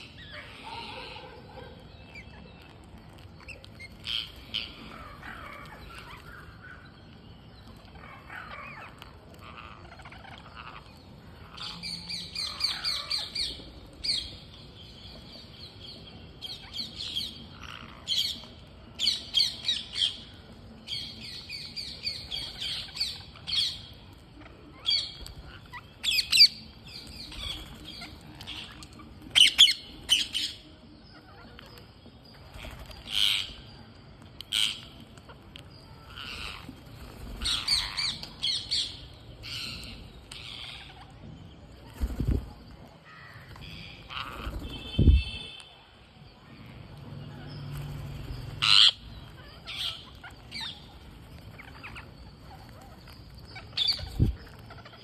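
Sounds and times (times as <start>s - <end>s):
parakeets screeching: 0.0s - 2.7s, 3.4s - 6.9s, 7.8s - 14.3s, 16.5s - 20.4s, 21.9s - 33.8s, 34.5s - 41.2s, 43.1s - 45.6s, 47.2s - 55.0s.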